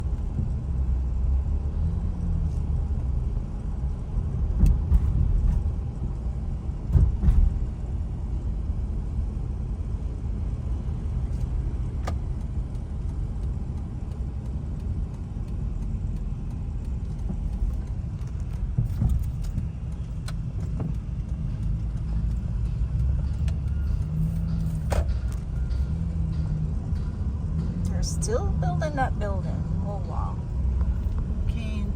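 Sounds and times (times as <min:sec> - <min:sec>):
car cabin road and engine noise: 0:00.0 - 0:31.9.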